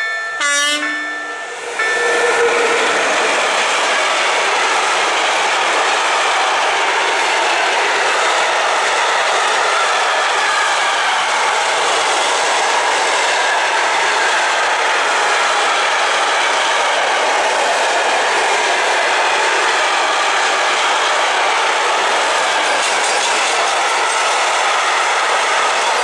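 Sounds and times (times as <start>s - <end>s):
freight train wheels on rail: 0.0s - 26.0s.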